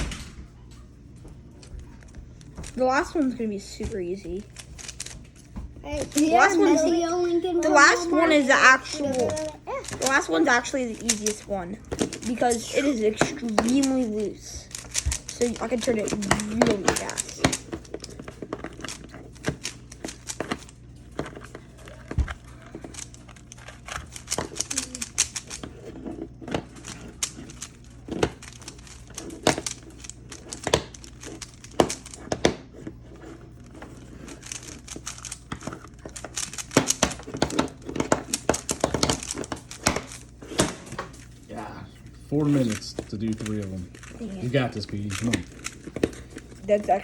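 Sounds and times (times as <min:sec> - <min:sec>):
puzzle cube plastic clicks: 0:04.2 - 0:05.4, 0:06.0 - 0:07.0, 0:07.6 - 0:40.8, 0:42.5 - 0:46.9.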